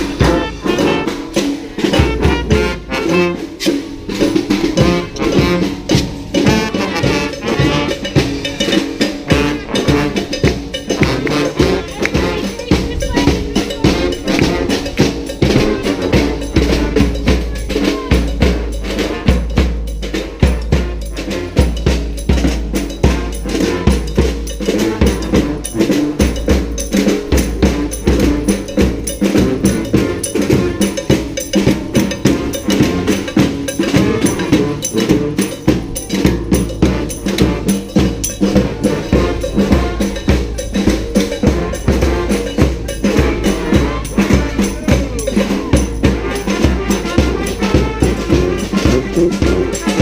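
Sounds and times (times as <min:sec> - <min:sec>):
brass band playing: 0:00.0 - 0:50.0
drums and hand percussion: 0:00.0 - 0:50.0.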